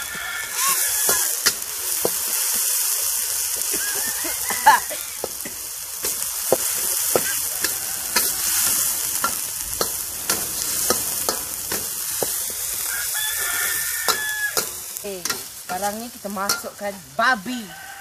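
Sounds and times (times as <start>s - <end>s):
metal spatula scraping wok: 0.0s - 18.0s
paste sizzling in oil: 0.0s - 18.0s.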